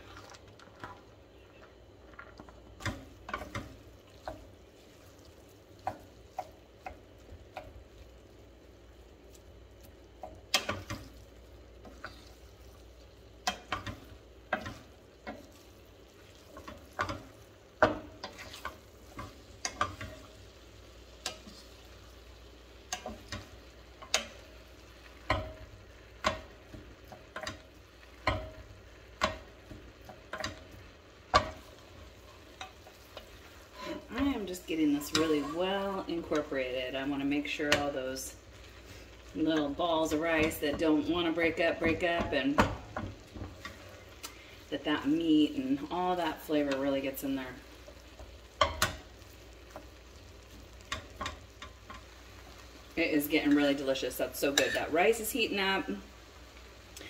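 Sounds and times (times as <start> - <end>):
faint steady sizzle: 0.0 - 57.0.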